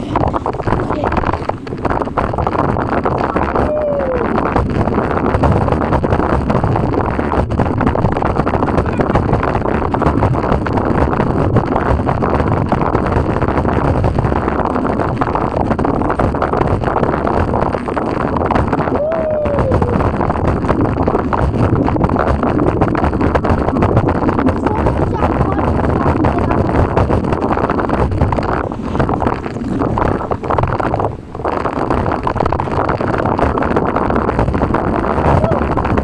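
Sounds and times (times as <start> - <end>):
scooter wheels rolling on concrete: 0.0 - 36.0
wind buffeting microphone: 0.0 - 36.0.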